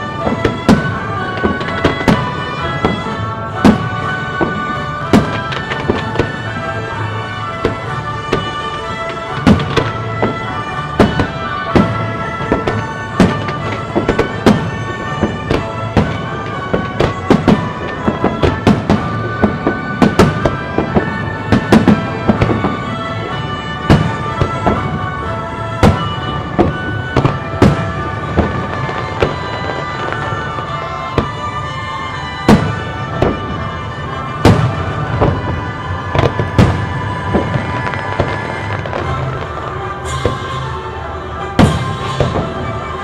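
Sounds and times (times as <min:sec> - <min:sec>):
fireworks bursting: 0:00.0 - 0:43.0
music with long held tones: 0:00.0 - 0:43.0.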